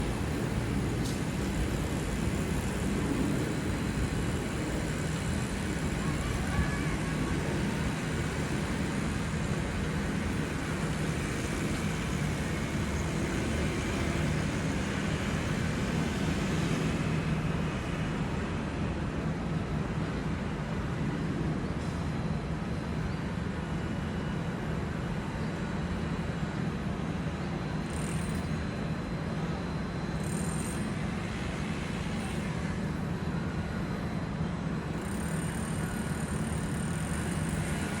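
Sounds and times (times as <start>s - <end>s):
jet airliner engines rumbling: 0.0s - 38.0s.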